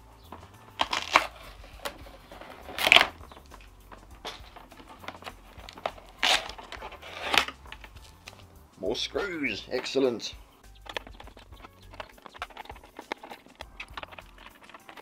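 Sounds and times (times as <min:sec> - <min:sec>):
plastic scraping and rustling: 0:00.2 - 0:08.5, 0:09.7 - 0:15.0.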